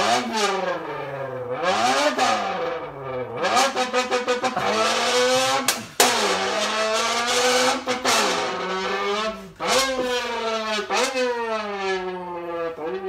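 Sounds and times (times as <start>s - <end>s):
man imitating car engine: 0.0s - 13.0s.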